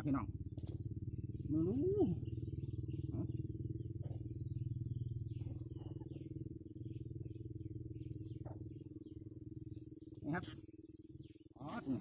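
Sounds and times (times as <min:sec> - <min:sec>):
low pulsing drone: 0:00.0 - 0:12.0.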